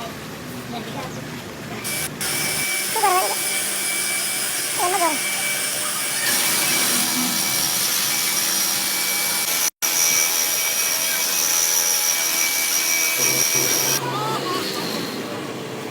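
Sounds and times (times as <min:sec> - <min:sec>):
loud hissing machine noise: 0:01.8 - 0:15.9.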